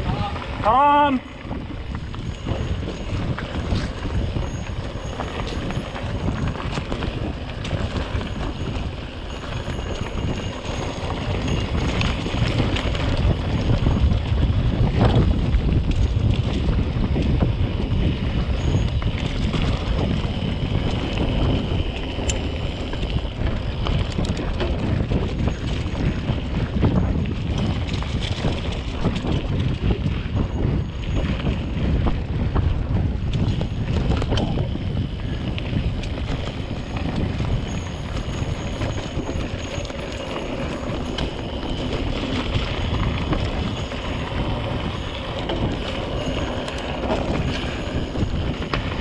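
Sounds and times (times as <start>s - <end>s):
bicycle tyres rolling on gravel: 0.0s - 49.0s
wind buffeting microphone: 0.0s - 49.0s.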